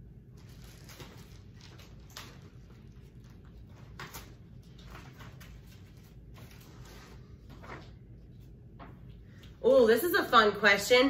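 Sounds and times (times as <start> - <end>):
steady low hum: 0.0 - 11.0
faint rustles and handling: 0.3 - 9.6.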